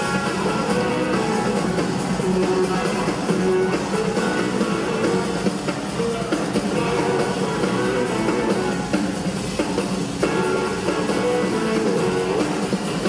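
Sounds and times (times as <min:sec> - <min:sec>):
drums playing driving beat: 0:00.0 - 0:13.0
electric guitar: 0:00.0 - 0:13.0
live rock band: 0:00.0 - 0:13.0.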